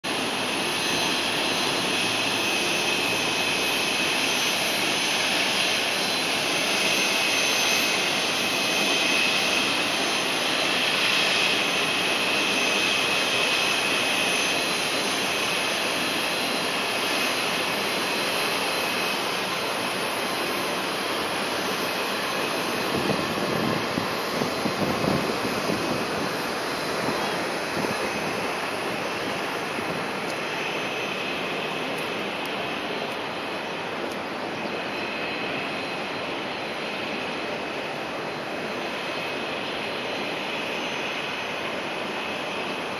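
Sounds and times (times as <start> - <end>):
aircraft engine running: 0.0 - 42.9.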